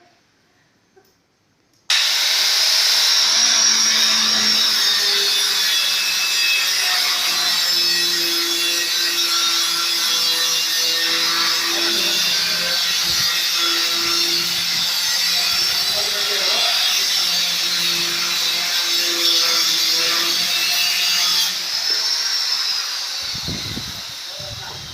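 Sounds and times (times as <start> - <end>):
power tool high-pitched hiss: 1.9 - 24.9.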